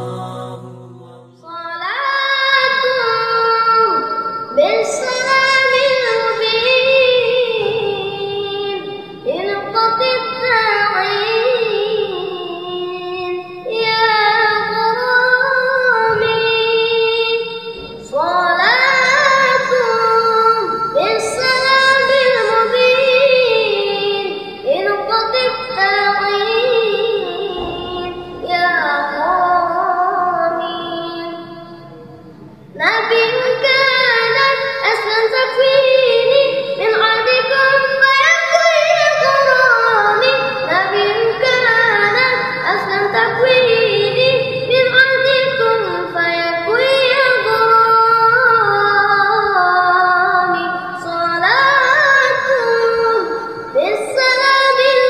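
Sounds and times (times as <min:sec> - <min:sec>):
boy singing: 0:00.0 - 0:32.0, 0:32.8 - 0:55.0.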